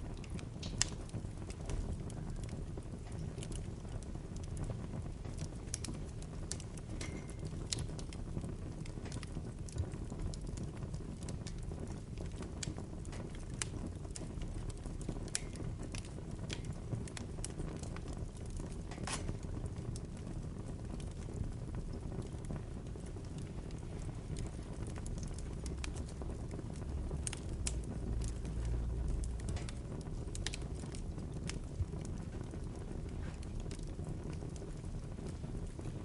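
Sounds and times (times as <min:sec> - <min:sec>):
burning wood crackling and popping: 0:00.0 - 0:36.0
flames rumbling: 0:00.0 - 0:36.0.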